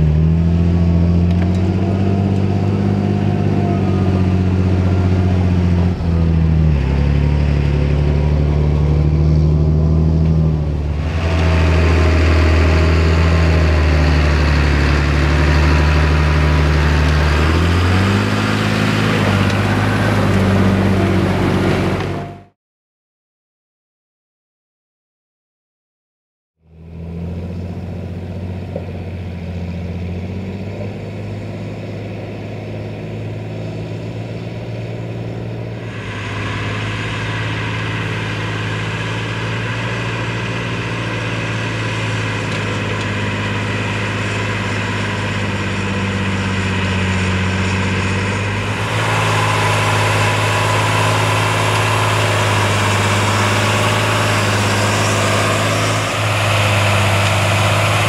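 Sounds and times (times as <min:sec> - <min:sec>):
tractor diesel engine under load: 0:00.0 - 0:22.6, 0:26.7 - 0:58.0.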